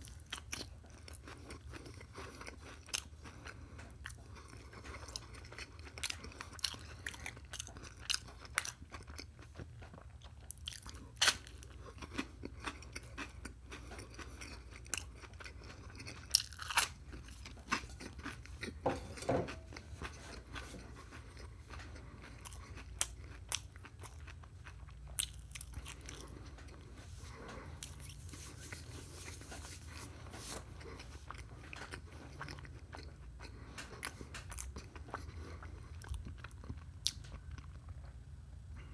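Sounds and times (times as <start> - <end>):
person chewing crisp toast: 0.0 - 38.9.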